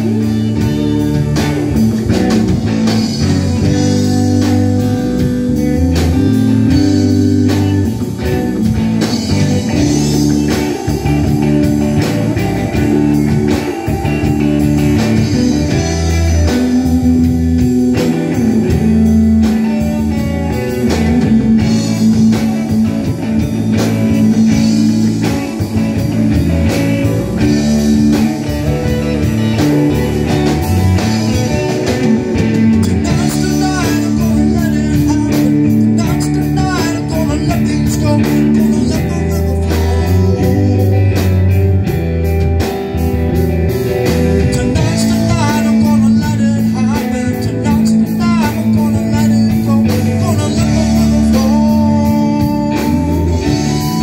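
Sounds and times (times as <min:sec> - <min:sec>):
drum kit beat: 0:00.0 - 0:54.0
electric bass: 0:00.0 - 0:54.0
electric guitars: 0:00.0 - 0:54.0.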